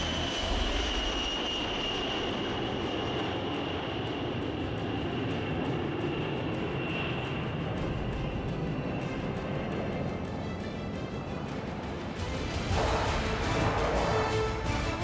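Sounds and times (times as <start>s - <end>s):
aircraft engine whine: 0.0s - 15.0s.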